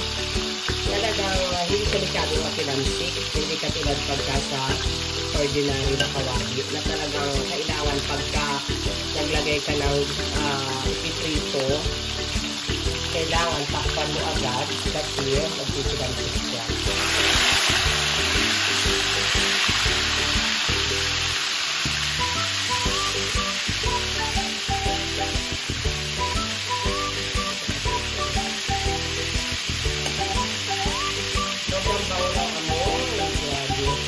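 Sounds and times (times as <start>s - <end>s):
faint background music: 0.0s - 34.0s
meat sizzling in hot oil: 0.0s - 34.0s.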